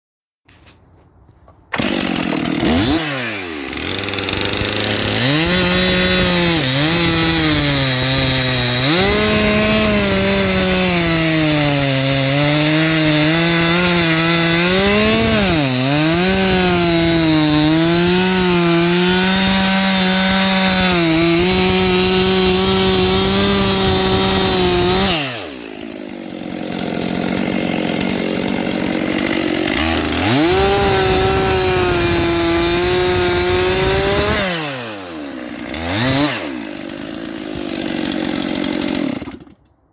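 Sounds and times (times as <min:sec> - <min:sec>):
chainsaw cutting wood: 0:01.5 - 0:39.9.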